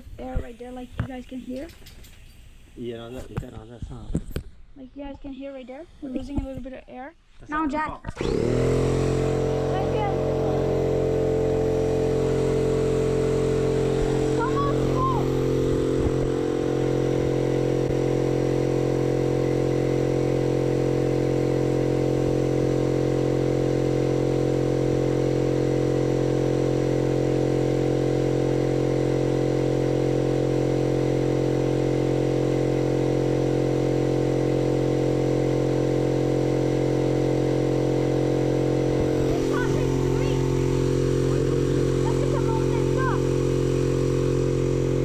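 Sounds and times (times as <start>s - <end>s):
air compressor humming: 0.0s - 7.0s, 8.1s - 45.0s.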